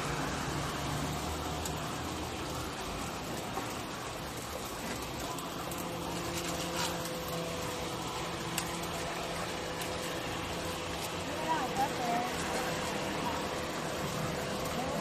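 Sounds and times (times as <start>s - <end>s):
buns sizzling in hot oil: 0.0s - 15.0s.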